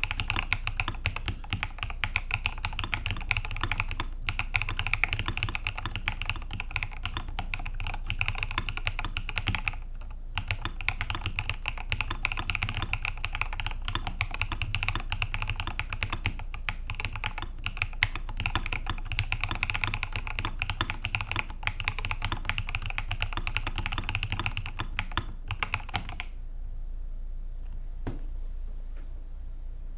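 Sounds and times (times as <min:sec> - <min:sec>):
mechanical keyboard typing: 0:00.0 - 0:26.3.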